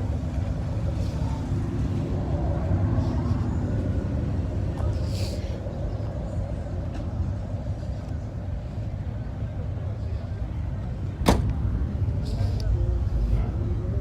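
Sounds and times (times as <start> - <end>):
motor vehicle engines rumbling: 0.0 - 14.0.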